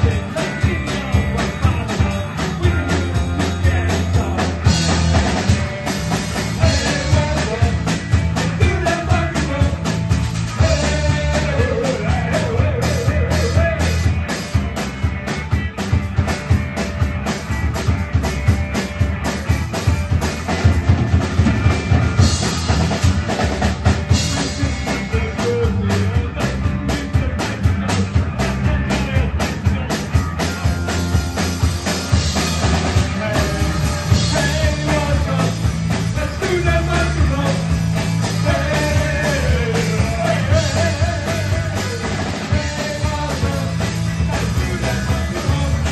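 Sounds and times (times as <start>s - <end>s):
drum kit beat: 0.0s - 45.9s
rock band playing live: 0.0s - 45.9s.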